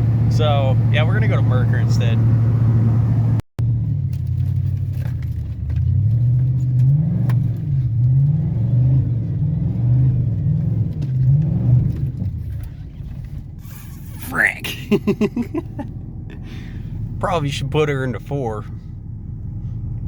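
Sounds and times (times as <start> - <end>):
pickup truck engine revving: 0.0 - 3.9, 5.9 - 20.0.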